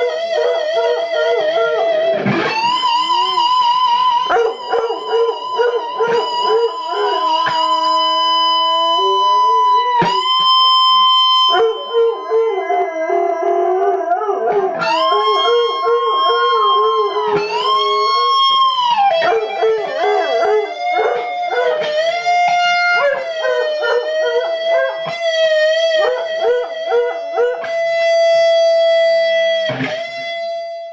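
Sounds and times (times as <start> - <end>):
rock music: 0.0 - 12.5, 14.7 - 30.7
electric guitar bending notes: 0.0 - 30.9.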